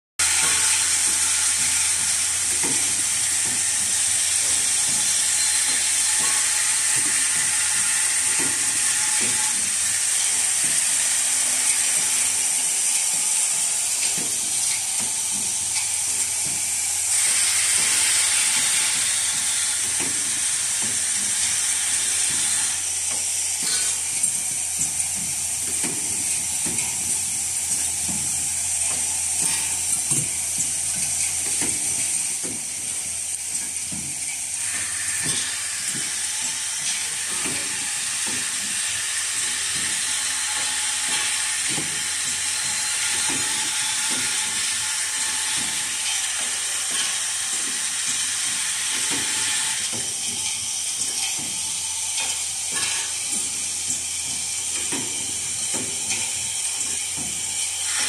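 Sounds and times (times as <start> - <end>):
machine high hiss: 0.2 - 58.0.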